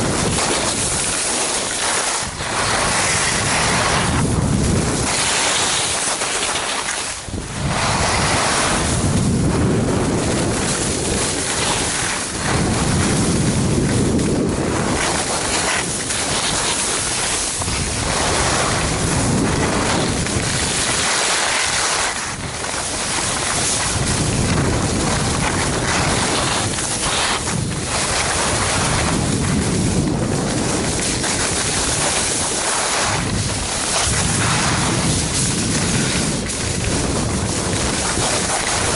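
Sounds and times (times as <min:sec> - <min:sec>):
skis hissing over snow: 0:00.0 - 0:38.9
wind rushing over microphone: 0:00.0 - 0:38.9.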